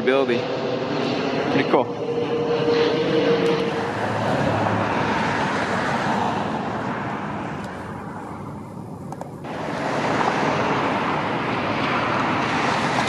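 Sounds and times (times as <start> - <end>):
passing vehicle engine rushing: 0.0 - 8.7, 9.4 - 13.0.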